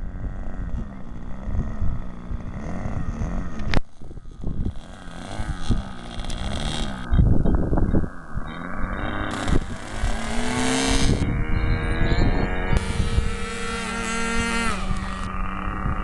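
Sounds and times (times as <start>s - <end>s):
model plane engine running: 0.0s - 16.0s
wind buffeting microphone: 0.0s - 16.0s.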